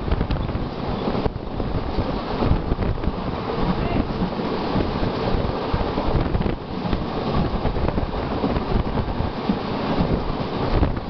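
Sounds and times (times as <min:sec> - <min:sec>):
trains running at speed: 0:00.0 - 0:11.0
wind buffeting microphone: 0:00.0 - 0:11.0.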